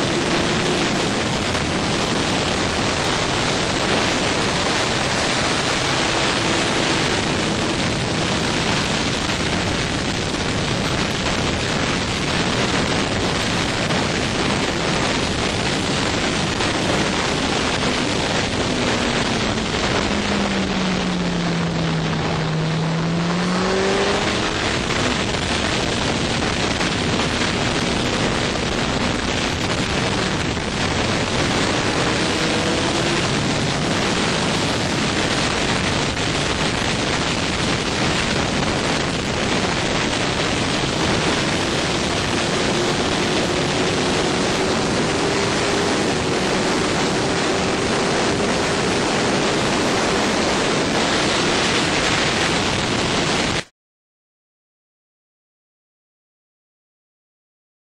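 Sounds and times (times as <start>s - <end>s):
heavy wind rush over microphone: 0.0s - 53.7s
motorcycle engine: 0.0s - 53.7s.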